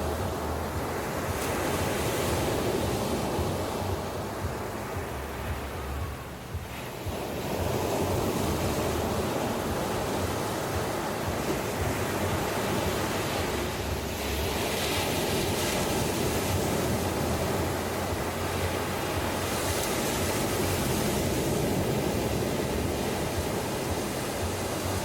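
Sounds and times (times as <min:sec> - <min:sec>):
sea waves washing onto beach: 0:00.0 - 0:25.0.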